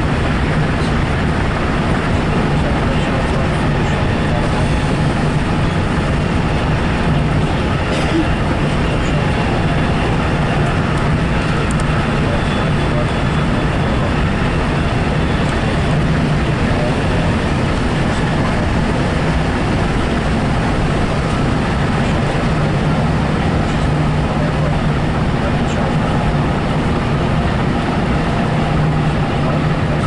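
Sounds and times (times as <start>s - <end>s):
low hum: 0.0s - 30.0s
train rushing noise: 0.0s - 30.0s.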